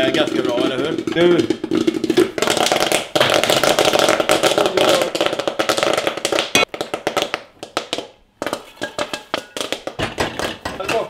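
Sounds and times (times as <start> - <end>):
popcorn popping in a pot: 0.0 - 11.0.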